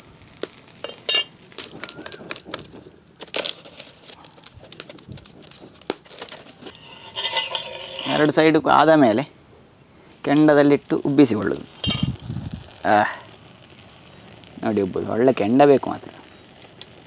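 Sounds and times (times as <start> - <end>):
sharp pops from fire: 0.0 - 8.4, 9.6 - 17.0
cooking fire crackling: 0.0 - 17.0.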